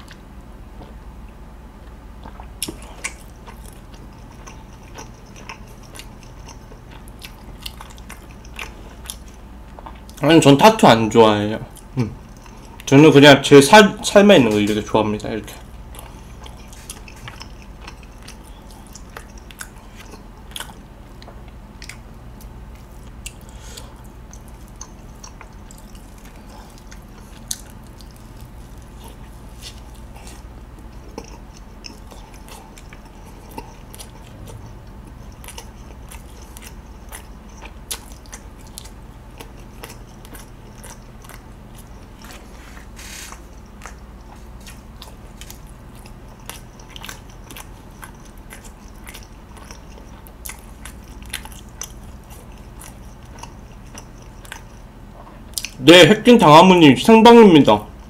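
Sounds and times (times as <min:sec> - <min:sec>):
close chewing with mouth clicks: 0:01.8 - 0:10.9, 0:11.7 - 0:13.0, 0:14.0 - 0:55.8.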